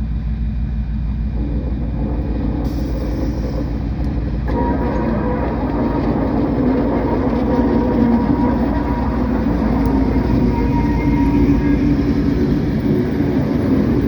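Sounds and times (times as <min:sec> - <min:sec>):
high steady whine: 0:00.0 - 0:14.0
track machine diesel engine rumble: 0:00.0 - 0:14.0.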